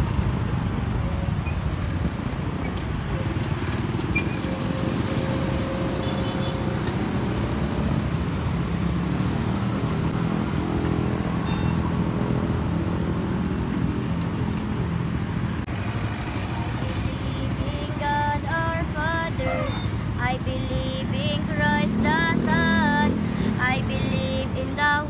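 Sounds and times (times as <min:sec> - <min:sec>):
cars passing: 0:00.0 - 0:25.0
motorcycles passing: 0:00.0 - 0:25.0.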